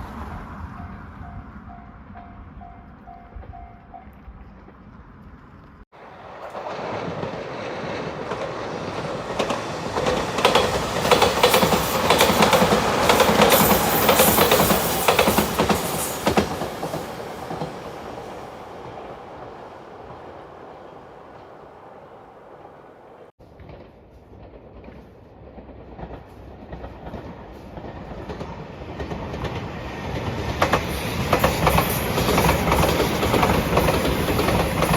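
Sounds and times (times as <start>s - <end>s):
train rushing past: 0.0s - 5.2s, 6.0s - 34.9s
wheels clacking over rail joints: 0.0s - 21.8s, 23.5s - 34.9s.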